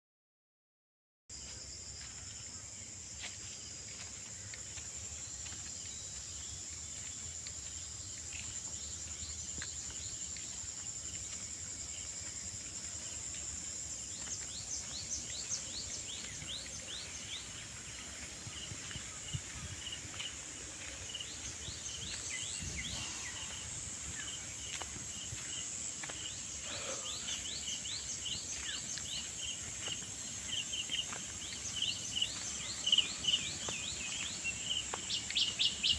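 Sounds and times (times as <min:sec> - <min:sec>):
insects droning: 0:01.3 - 0:35.9
birds chirping: 0:04.0 - 0:35.9.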